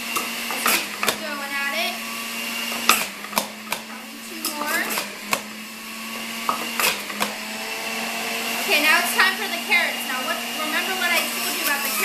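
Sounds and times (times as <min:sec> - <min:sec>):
electric juicer humming: 0:00.0 - 0:12.0.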